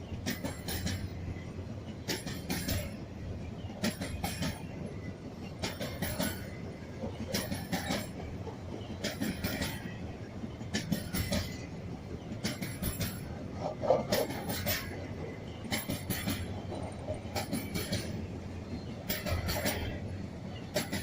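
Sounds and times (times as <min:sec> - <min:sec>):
train rumbling past: 0:00.0 - 0:21.0
wheels clacking over rail joints: 0:00.0 - 0:21.0.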